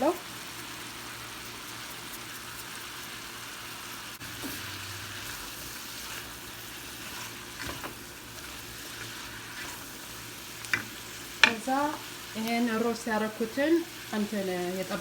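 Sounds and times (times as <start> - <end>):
stew sizzling in frying pan: 0.0 - 15.0.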